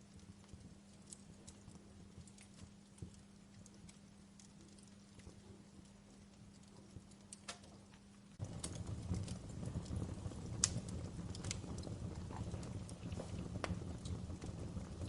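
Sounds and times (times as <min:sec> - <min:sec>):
low rushing of flames: 0:00.0 - 0:15.0
wood fire crackling: 0:00.0 - 0:15.0.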